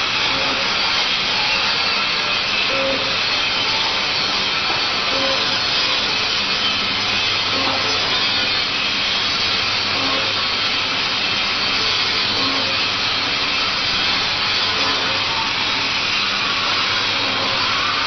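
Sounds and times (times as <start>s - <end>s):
machine whirring: 0.0s - 18.0s.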